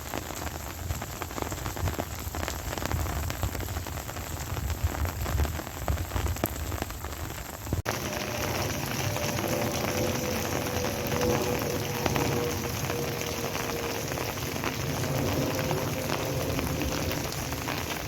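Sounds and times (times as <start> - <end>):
rain pattering on surfaces: 0.0 - 18.0
steady rain hiss: 0.0 - 18.0.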